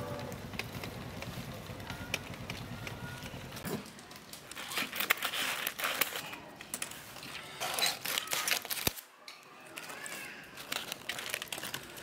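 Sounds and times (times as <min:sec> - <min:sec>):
aluminium foil crinkling: 0:00.3 - 0:12.0.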